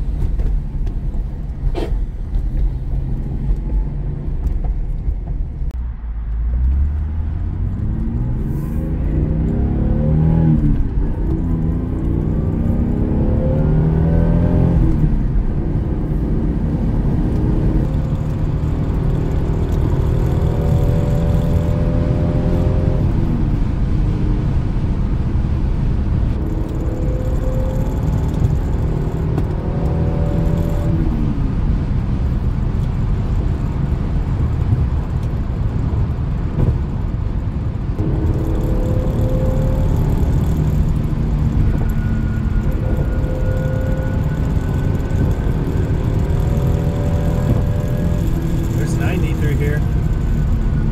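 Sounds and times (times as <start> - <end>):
car engine accelerating: 0.0 - 50.9
road rumble: 0.0 - 50.9.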